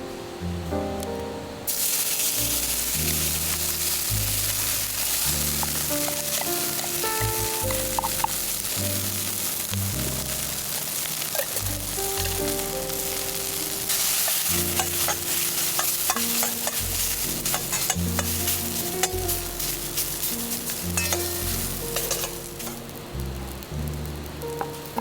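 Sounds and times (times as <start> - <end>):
rice sizzling in a frying pan: 1.6 - 25.0
metal ladle scraping a pan: 1.8 - 9.7, 10.3 - 22.9
background music with bass: 2.4 - 10.8, 11.5 - 13.9, 14.5 - 25.0.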